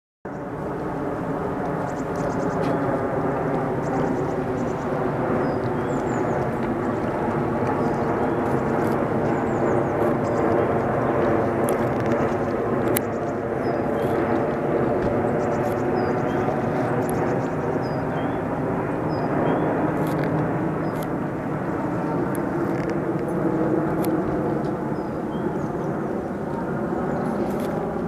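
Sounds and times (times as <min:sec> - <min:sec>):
jet airliner rumble overhead: 0:00.3 - 0:28.0.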